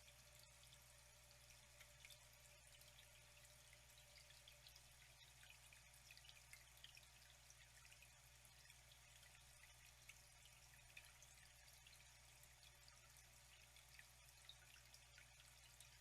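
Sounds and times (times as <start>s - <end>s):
faint flowing water: 0.0s - 16.0s.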